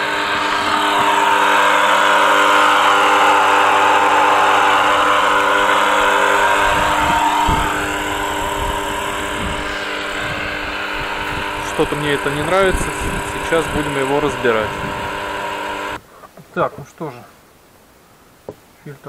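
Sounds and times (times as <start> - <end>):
pump motor humming: 0.0 - 16.0.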